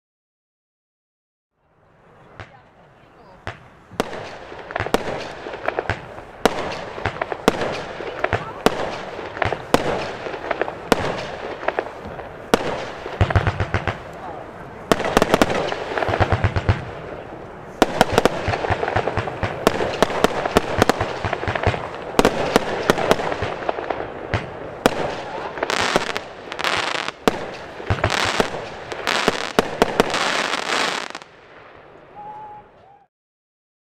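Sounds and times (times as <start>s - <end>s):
fireworks shots and bursts: 3.4s - 32.3s
hissing firework bursts: 3.4s - 32.5s.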